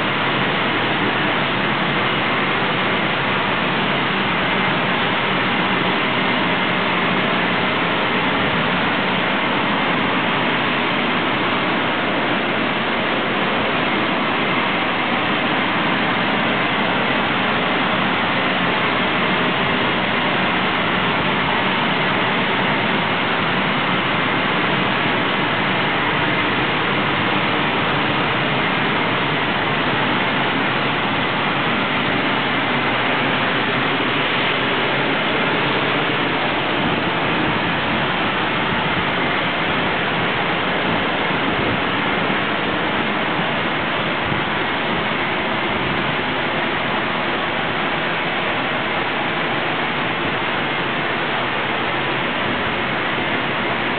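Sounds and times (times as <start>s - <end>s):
arc spray gun hissing: 0.0s - 48.9s.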